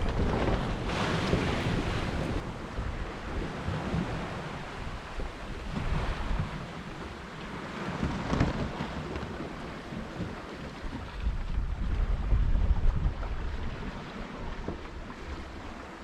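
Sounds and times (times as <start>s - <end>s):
sea water washing: 0.0s - 16.0s
wind buffeting microphone: 0.0s - 16.0s.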